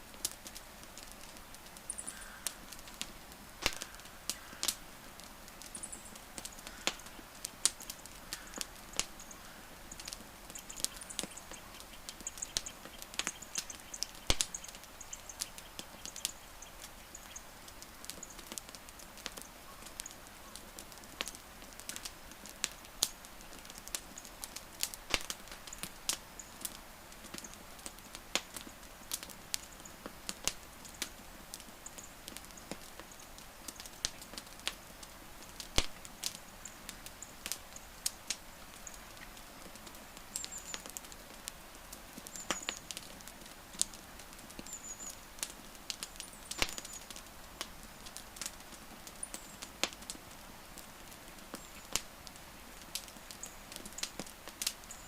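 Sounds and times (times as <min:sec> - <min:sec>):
low hiss of burning: 0:00.0 - 0:55.0
wood fire crackling: 0:00.0 - 0:55.0.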